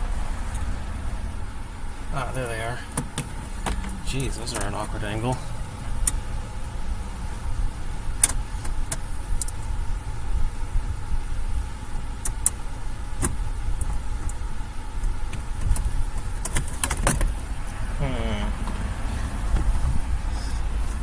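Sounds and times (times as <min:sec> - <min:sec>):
low rumble: 0:00.0 - 0:16.4, 0:17.3 - 0:21.0.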